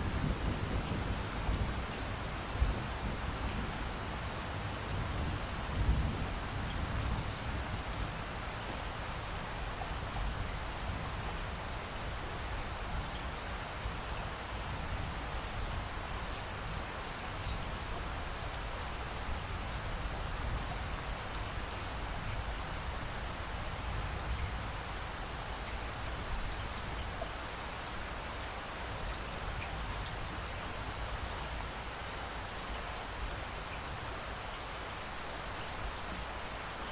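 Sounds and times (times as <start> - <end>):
rain pattering: 0.0 - 36.9.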